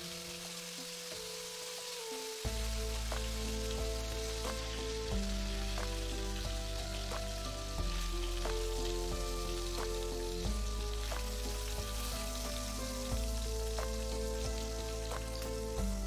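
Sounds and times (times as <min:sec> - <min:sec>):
chicken sizzling in frying pan: 0:00.0 - 0:16.0
background music with bass: 0:02.4 - 0:16.0.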